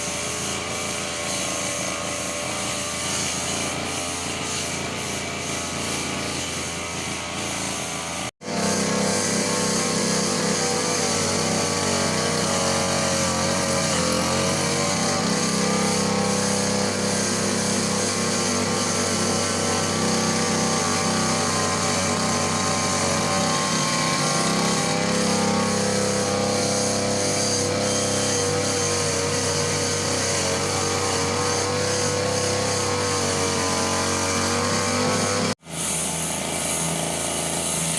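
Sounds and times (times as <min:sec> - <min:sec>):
brush cutter engine running: 0:00.0 - 0:37.9.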